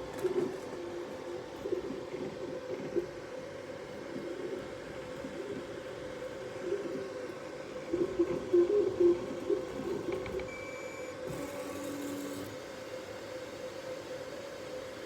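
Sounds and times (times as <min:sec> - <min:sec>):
printer hum: 0:00.0 - 0:15.0.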